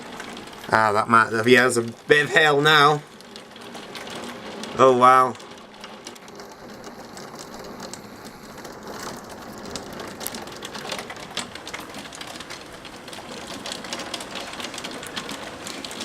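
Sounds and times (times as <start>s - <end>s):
hailstones clattering: 0.0s - 16.0s
heavy rain rushing: 0.0s - 16.0s.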